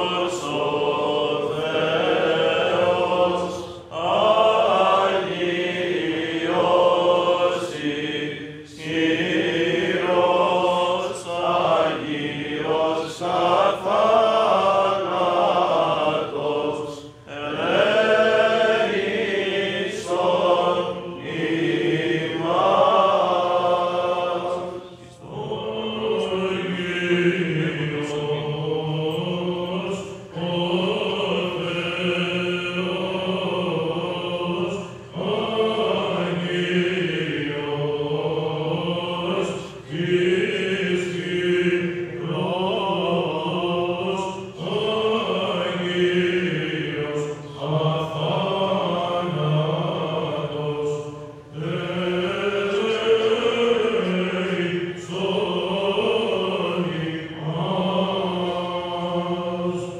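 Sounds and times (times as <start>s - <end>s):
voices chanting: 0.0s - 59.9s.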